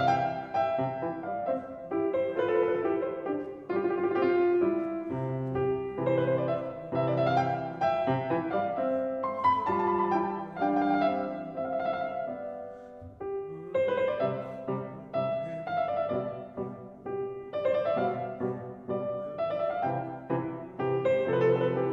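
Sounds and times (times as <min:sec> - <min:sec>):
slow classical piano piece: 0:00.0 - 0:21.9.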